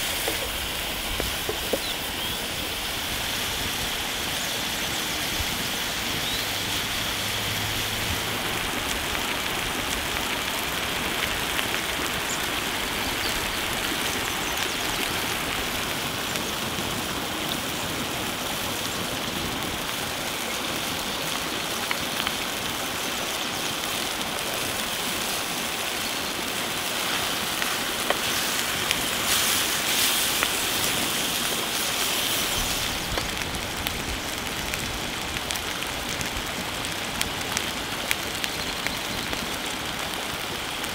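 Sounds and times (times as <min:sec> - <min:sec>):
small pops and crackles: 0:00.0 - 0:02.7, 0:08.2 - 0:40.9
sauce sizzling and bubbling: 0:00.0 - 0:40.9.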